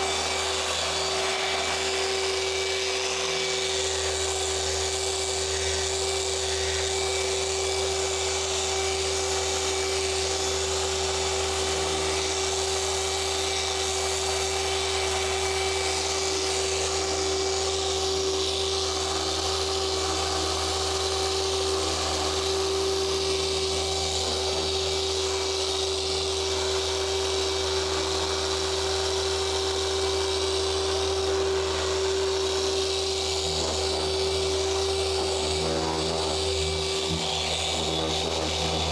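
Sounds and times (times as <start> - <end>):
electric car polisher whining: 0.0 - 38.9.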